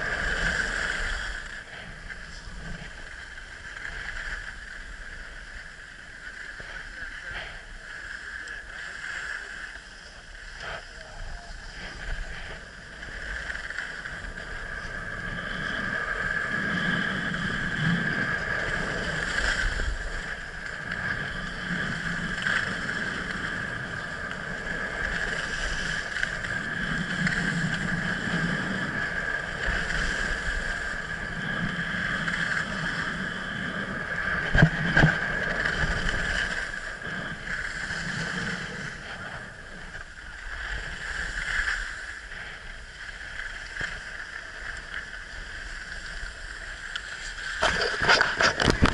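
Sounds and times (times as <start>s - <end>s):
skis carving on snow: 0.0s - 48.9s
wind on microphone: 0.0s - 48.9s.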